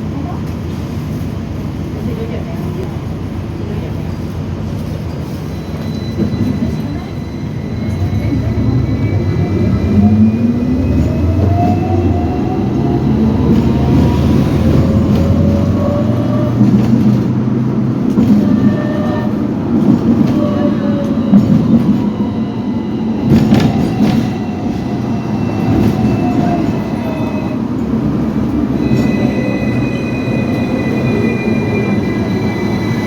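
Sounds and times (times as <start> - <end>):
wheels rumbling on rails: 0.0 - 33.0
tram motor whine: 5.1 - 33.0.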